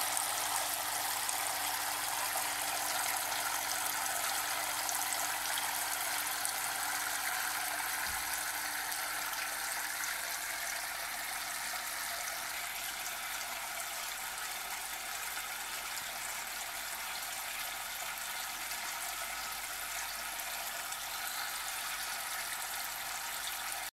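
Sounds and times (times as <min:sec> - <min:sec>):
water pouring and splashing: 0:00.0 - 0:23.9.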